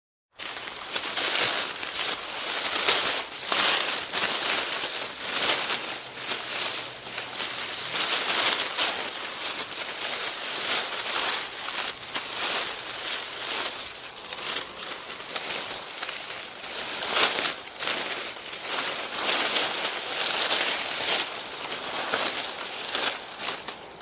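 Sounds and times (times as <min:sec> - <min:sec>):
dense crackling noise: 0:00.3 - 0:24.0.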